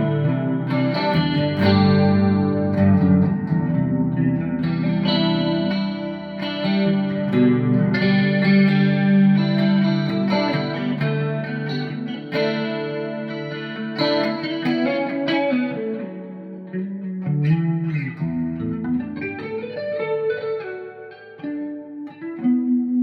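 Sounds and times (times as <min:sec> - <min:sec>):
electric guitar chords strummed: 0:00.0 - 0:23.0
picked guitar notes: 0:00.0 - 0:23.0.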